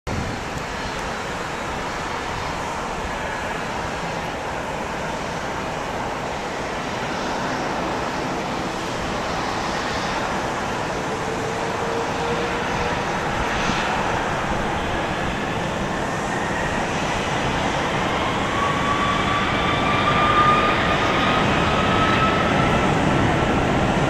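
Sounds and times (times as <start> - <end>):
distant jet engines roaring: 0.1 - 24.0.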